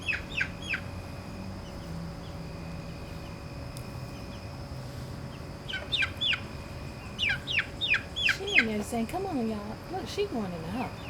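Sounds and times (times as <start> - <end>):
faint constant hum: 0.0 - 11.0.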